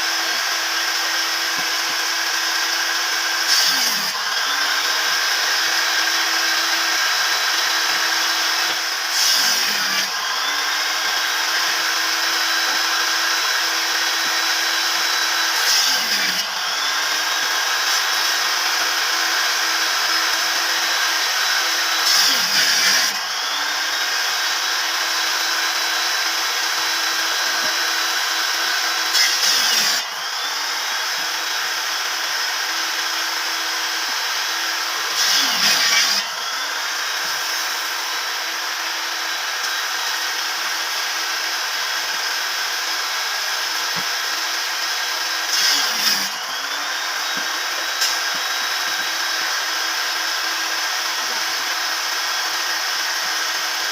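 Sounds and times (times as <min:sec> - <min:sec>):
power tool motor running: 0:00.0 - 0:53.9
tool rasping into wood: 0:00.0 - 0:53.9.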